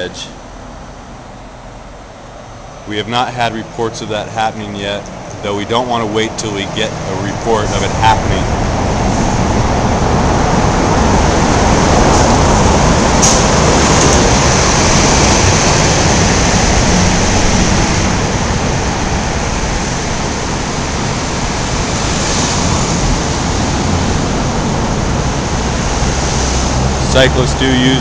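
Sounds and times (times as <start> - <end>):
traffic rushing through underpass: 0.0 - 28.0.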